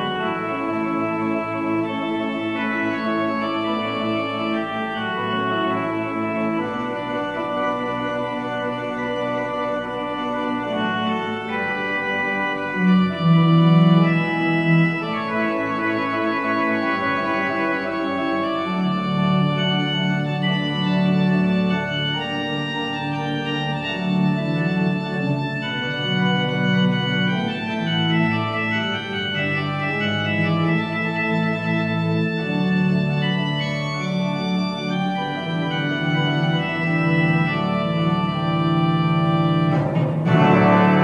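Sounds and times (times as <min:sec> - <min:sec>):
organ sustained chords: 0:00.0 - 0:41.0.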